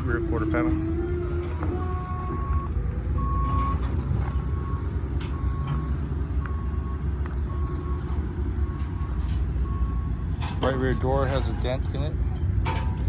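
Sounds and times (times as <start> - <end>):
reversing alarm beeping: 0.4 - 11.5.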